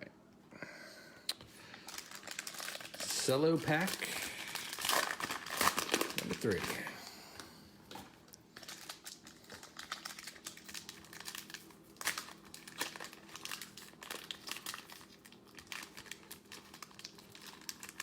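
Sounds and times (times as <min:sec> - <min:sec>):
cellophane wrapper crinkling: 0:01.5 - 0:07.0, 0:07.9 - 0:18.0.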